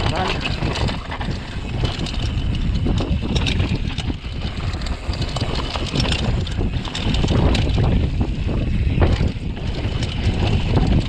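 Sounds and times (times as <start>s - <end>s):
bike rattling: 0.0s - 11.0s
bike tyres on dirt: 0.0s - 11.0s
wind buffeting microphone: 0.0s - 11.0s.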